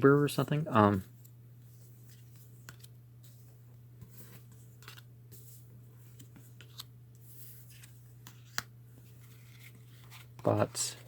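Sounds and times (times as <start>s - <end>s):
cards rustling and clicking: 1.0s - 11.0s.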